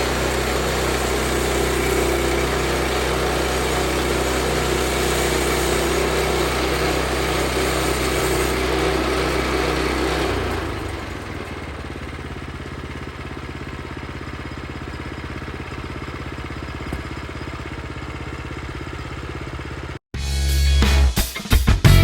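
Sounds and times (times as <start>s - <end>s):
small gasoline engine idling: 0.0s - 20.0s.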